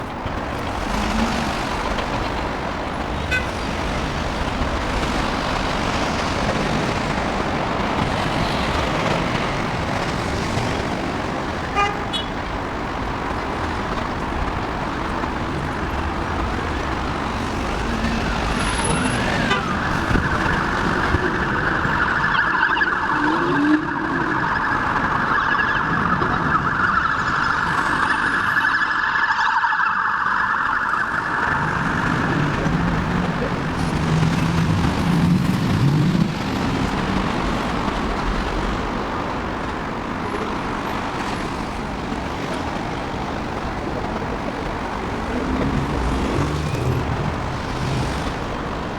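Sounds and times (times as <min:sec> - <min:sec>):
heavy road traffic: 0:00.0 - 0:48.9
steady rushing noise: 0:00.0 - 0:48.9
emergency vehicle siren wailing: 0:00.1 - 0:48.9.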